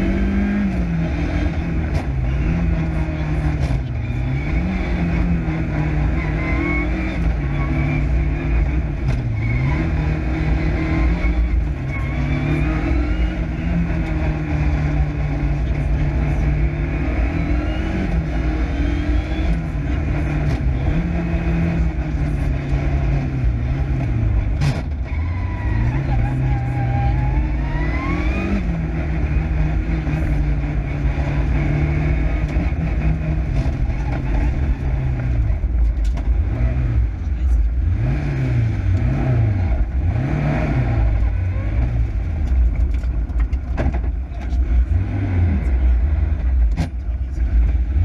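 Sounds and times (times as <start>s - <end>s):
rally car engine revving: 0.0s - 48.0s.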